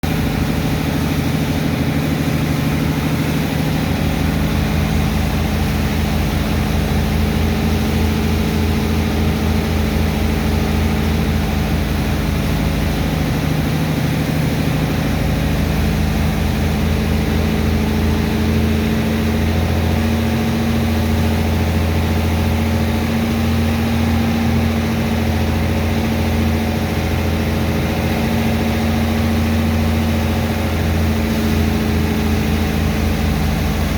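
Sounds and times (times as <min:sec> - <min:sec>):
large diesel engine running: 0:00.0 - 0:33.9.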